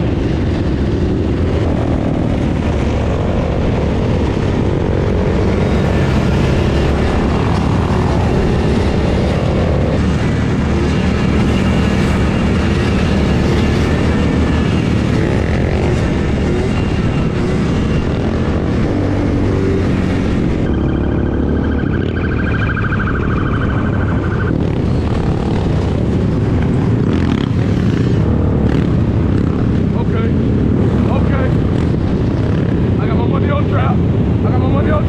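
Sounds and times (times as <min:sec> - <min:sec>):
atv engines droning: 0:00.0 - 0:35.0.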